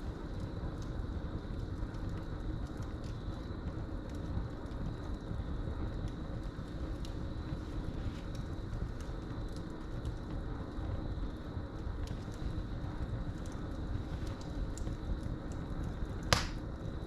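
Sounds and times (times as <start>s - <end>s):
crickets trilling: 0.0s - 17.0s
steady low rumble: 0.0s - 17.0s
wood fire crackling: 0.0s - 17.0s.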